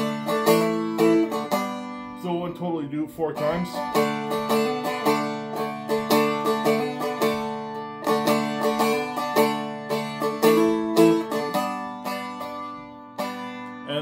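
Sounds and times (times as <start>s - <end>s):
guitar strummed with pick: 0.0s - 14.0s.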